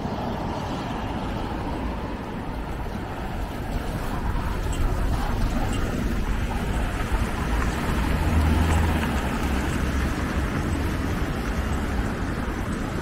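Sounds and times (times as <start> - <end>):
bus pulling away: 0.0 - 13.0
cars driving past: 0.0 - 13.0.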